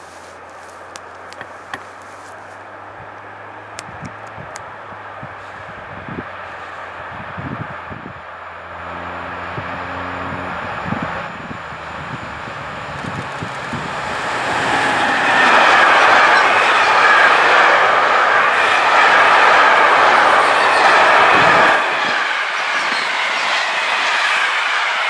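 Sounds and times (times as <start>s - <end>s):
electric freight train passing: 0.0s - 25.0s
wheels rumbling on rails: 0.0s - 25.0s.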